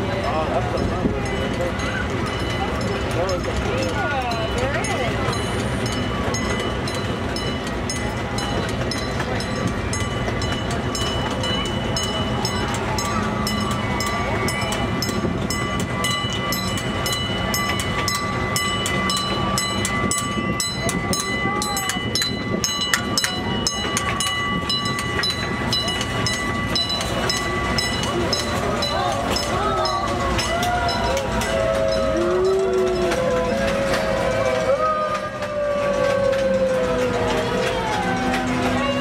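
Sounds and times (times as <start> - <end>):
miniature train engine drone: 0.0 - 39.0
wheels clicking on track: 0.0 - 39.0.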